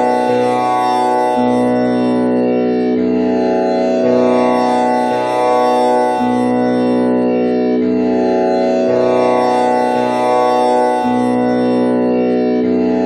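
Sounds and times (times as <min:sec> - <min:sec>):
tanpura drone: 0:00.0 - 0:13.0.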